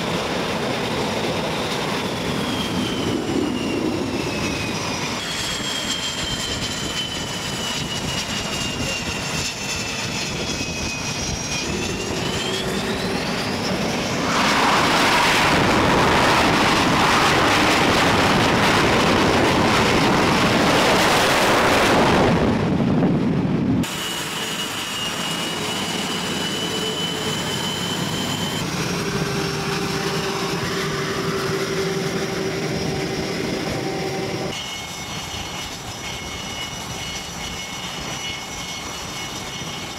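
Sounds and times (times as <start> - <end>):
jet engine roar: 0.0 - 39.9
jet engine whine: 0.0 - 39.9.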